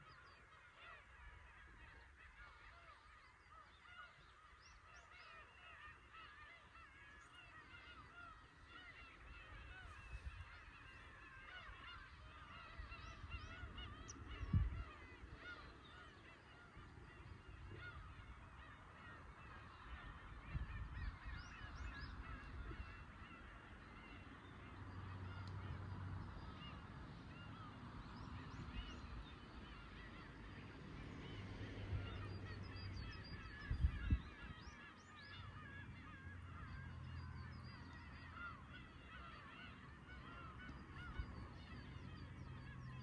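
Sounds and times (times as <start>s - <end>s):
flock of gulls calling: 0.0s - 43.0s.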